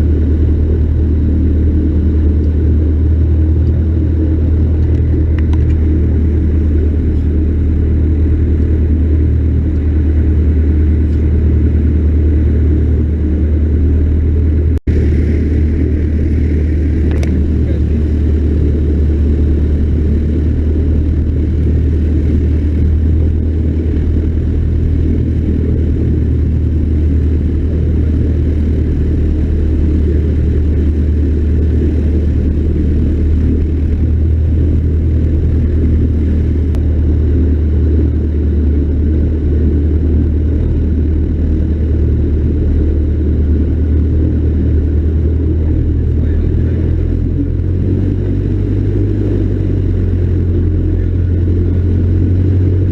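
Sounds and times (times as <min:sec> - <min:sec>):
propeller plane engine drone: 0:00.0 - 0:52.9.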